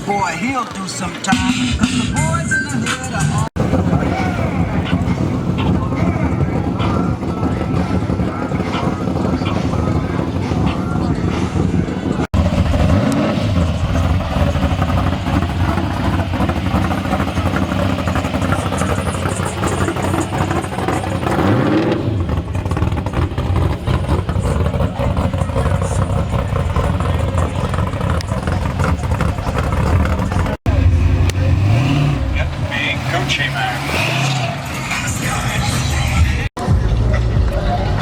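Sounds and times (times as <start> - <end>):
vehicle engine running loud: 3.2 - 38.0.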